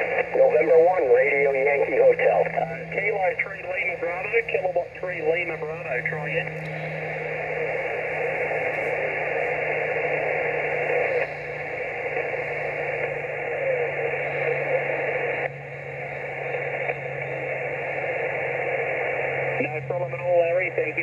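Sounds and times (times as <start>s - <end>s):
radio hiss and static: 0.0s - 21.0s
steady low hum: 0.0s - 21.0s.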